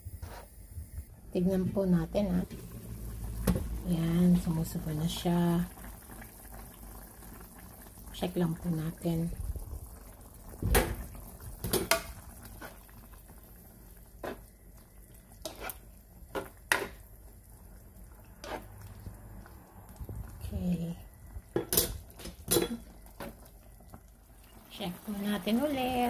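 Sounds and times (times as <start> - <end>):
meat simmering: 1.1 - 26.0.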